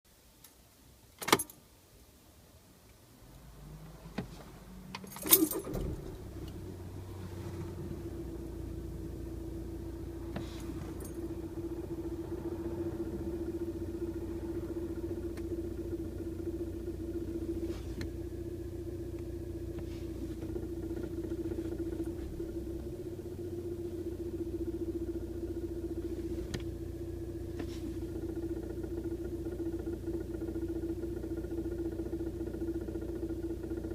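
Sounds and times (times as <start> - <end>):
diesel engine starting and idling: 3.1 - 33.9.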